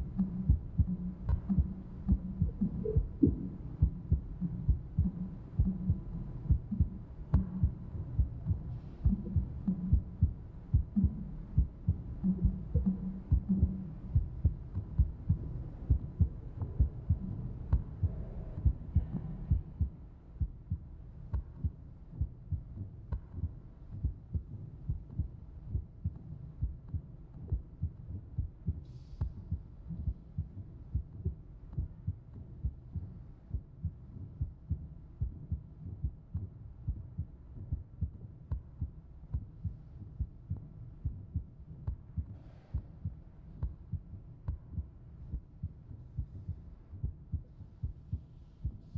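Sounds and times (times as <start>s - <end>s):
faint hum: 0.0s - 48.9s
soft low thumps: 0.0s - 48.9s.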